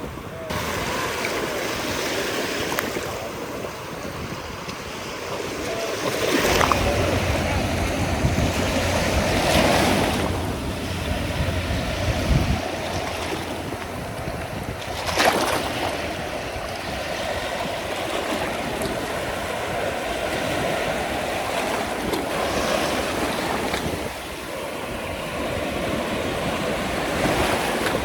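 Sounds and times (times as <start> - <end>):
ocean surf on beach: 0.0 - 28.0
wind buffeting microphone: 0.0 - 28.0.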